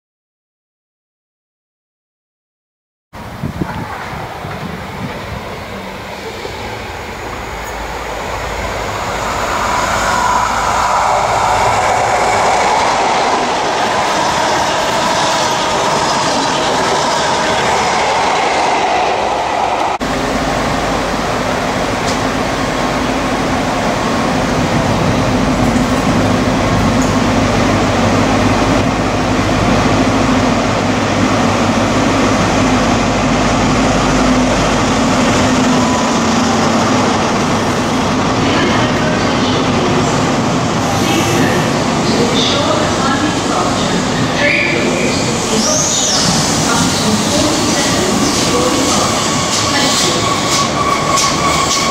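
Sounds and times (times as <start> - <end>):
train wheels rolling on rails: 3.5 - 51.9.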